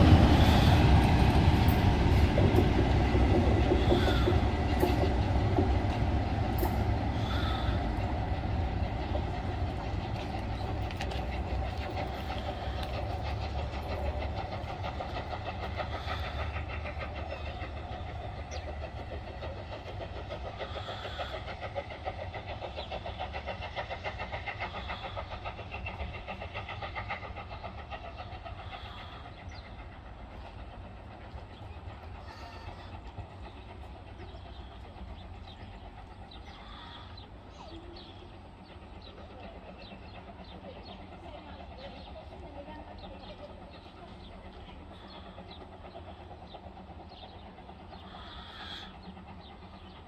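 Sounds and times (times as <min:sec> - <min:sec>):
train rhythmic rumble: 0:00.0 - 0:50.0.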